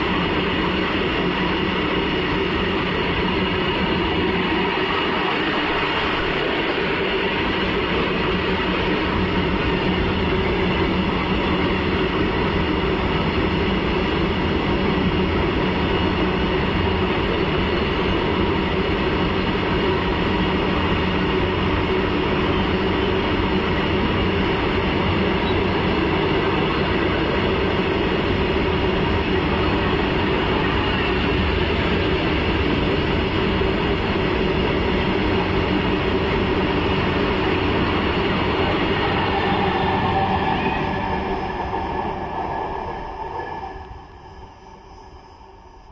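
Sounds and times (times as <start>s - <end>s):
freight train passing: 0.0s - 45.9s.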